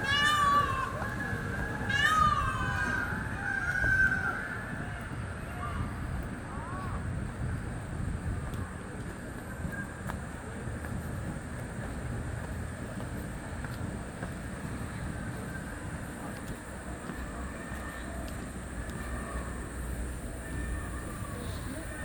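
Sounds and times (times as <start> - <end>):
low outdoor ambient rumble: 0.0 - 22.0.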